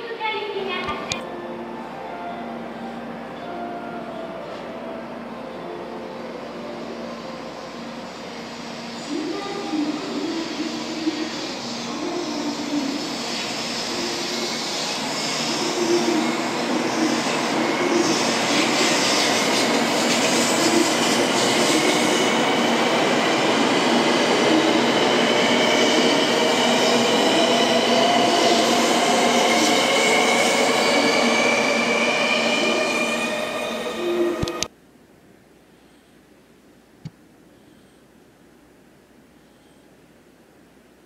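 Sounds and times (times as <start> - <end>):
rushing rail noise: 0.0 - 34.7.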